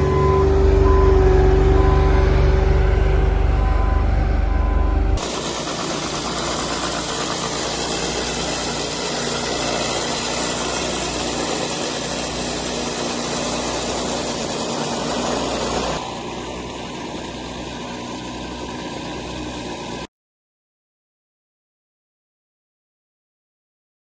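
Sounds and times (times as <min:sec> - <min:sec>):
engine rumbling and roaring: 0:00.0 - 0:20.1.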